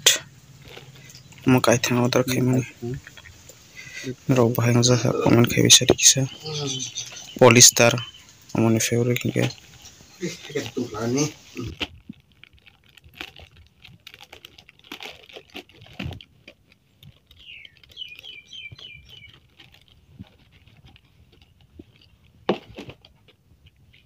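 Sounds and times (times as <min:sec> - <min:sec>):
plastic packaging rustling: 0:00.2 - 0:24.0.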